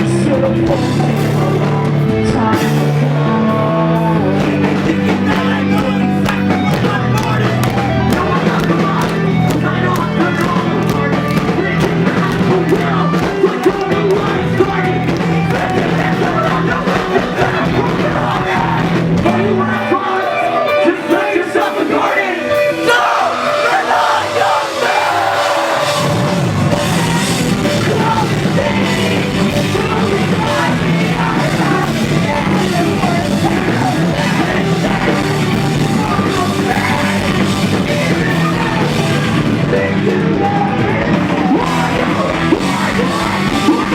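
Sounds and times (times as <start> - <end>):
bass and drums: 0.0 - 20.9, 21.5 - 43.9
distorted guitars: 0.0 - 43.9
yelled and sung vocals: 0.0 - 43.9.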